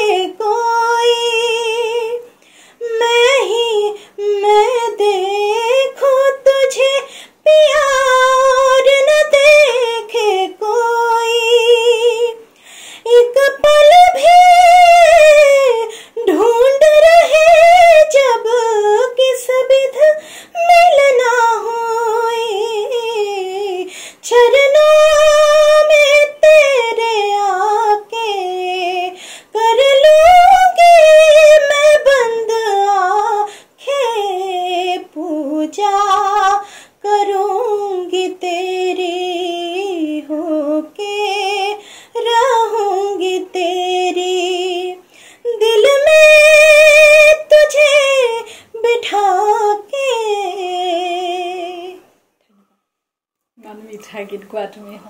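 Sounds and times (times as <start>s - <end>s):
woman singing unaccompanied: 0.0s - 52.1s.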